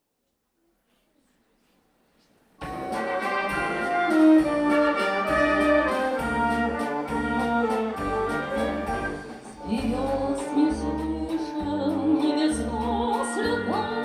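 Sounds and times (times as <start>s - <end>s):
instrumental waltz: 2.6s - 14.0s.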